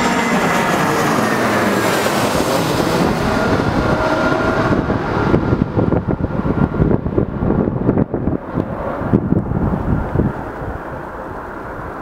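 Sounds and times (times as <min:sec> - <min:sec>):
jet engines passing overhead: 0:00.0 - 0:12.0
wind buffeting microphone: 0:00.0 - 0:12.0.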